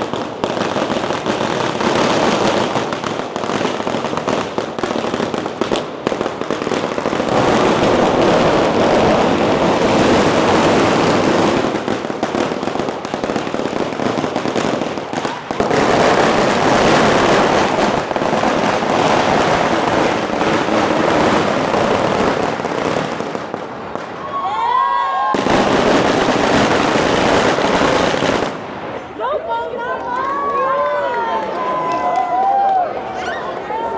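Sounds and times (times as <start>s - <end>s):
firecrackers crackling: 0.0s - 33.9s.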